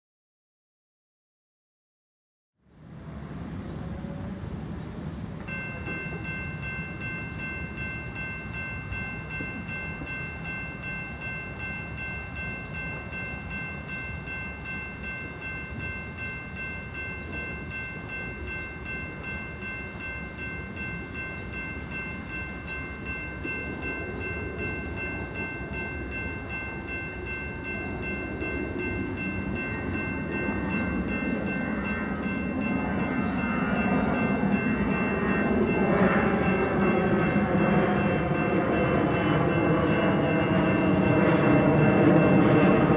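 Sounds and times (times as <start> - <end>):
railroad crossing bell ringing: 2.8 - 42.9.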